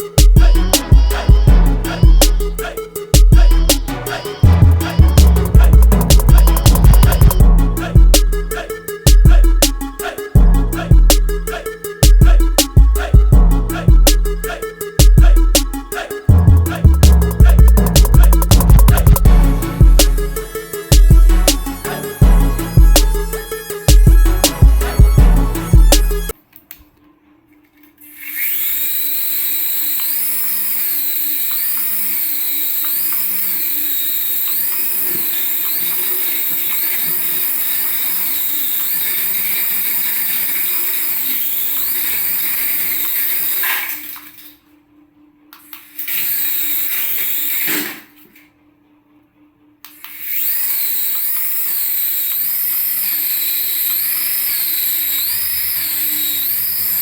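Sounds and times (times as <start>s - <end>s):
toy electric motor whining: 0.0s - 10.4s, 14.4s - 26.4s, 27.9s - 44.6s, 45.6s - 48.3s, 49.9s - 57.0s.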